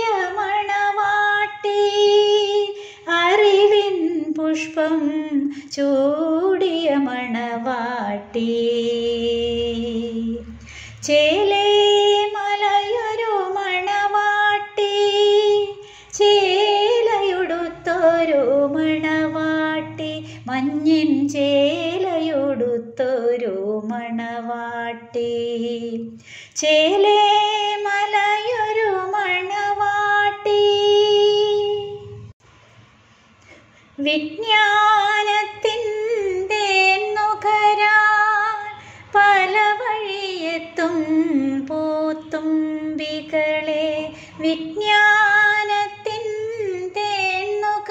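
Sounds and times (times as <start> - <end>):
woman singing slow song: 0.0 - 32.3, 34.0 - 47.9.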